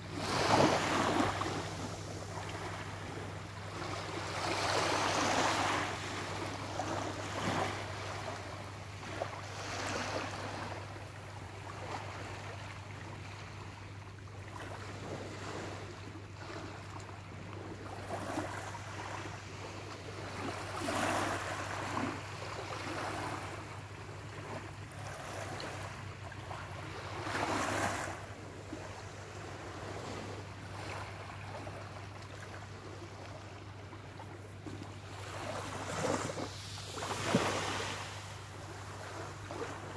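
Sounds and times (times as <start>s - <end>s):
small waves lapping on sand: 0.0s - 39.9s
steady low hum: 0.0s - 39.9s.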